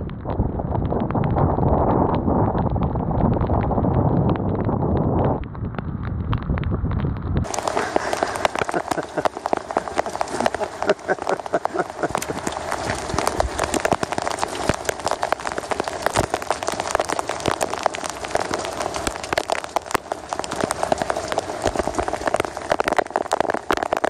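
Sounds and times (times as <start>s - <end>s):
rain falling on a deck: 0.0s - 24.0s
water dripping: 0.0s - 24.0s.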